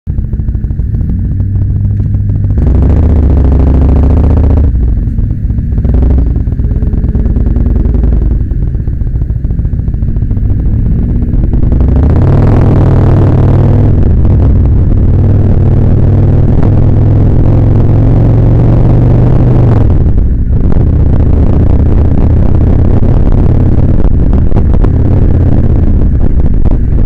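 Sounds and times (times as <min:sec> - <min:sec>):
motorcycle engine revving: 0:00.1 - 0:27.0.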